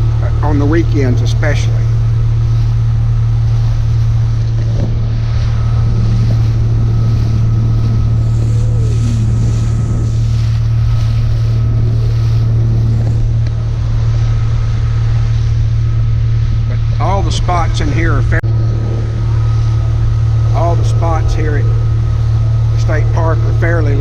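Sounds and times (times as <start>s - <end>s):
motorboat engine humming: 0.0s - 24.0s
wind buffeting microphone: 0.0s - 24.0s.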